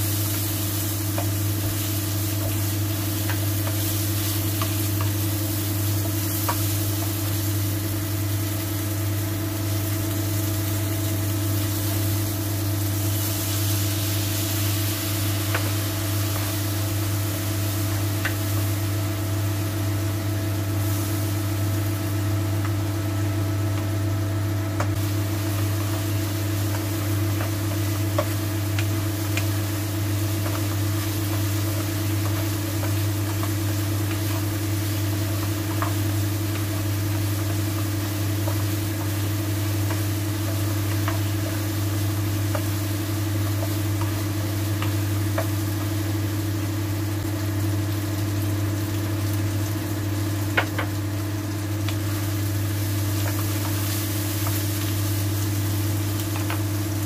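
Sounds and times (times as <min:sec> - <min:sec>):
chicken wings sizzling: 0:00.0 - 0:57.0
low machine hum: 0:00.0 - 0:57.0.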